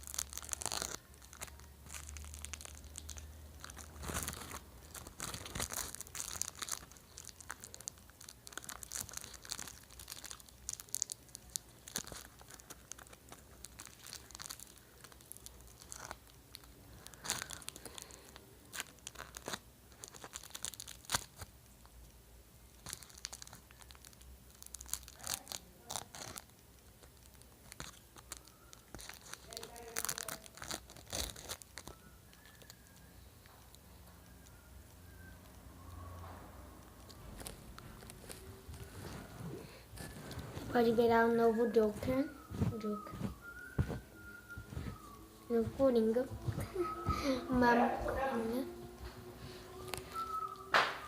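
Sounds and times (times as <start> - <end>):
plastic packaging crumpling: 0.0 - 22.0, 22.6 - 34.5, 36.0 - 51.0.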